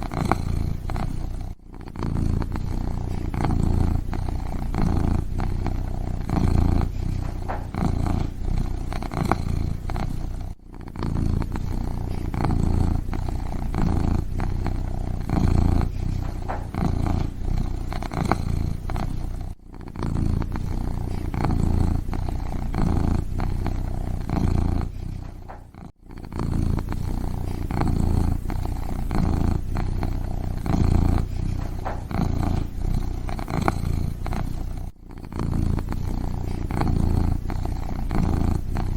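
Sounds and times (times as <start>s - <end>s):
kitten purring: 0.0s - 38.9s.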